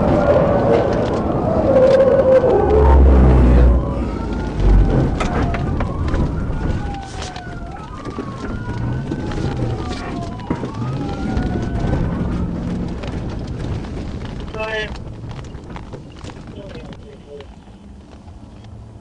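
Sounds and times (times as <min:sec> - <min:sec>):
police sirens wailing: 0:00.0 - 0:18.1
low rumble: 0:00.0 - 0:19.0.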